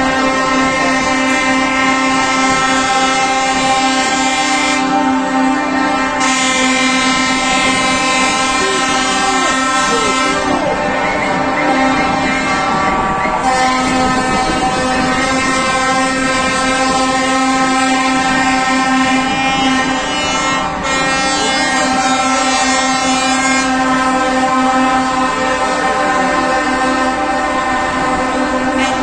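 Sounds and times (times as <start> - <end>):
lorry air horns: 0.0 - 29.0.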